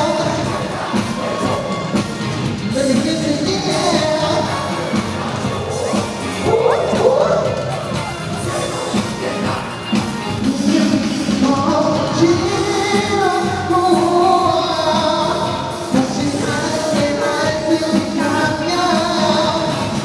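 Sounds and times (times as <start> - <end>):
amplified band playing: 0.0 - 20.0
man singing: 0.0 - 20.0.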